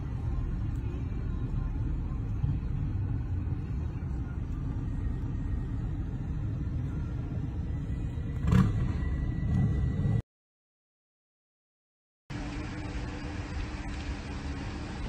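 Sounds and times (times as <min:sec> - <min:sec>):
vehicle engine rumble: 0:00.0 - 0:10.2, 0:12.3 - 0:15.0.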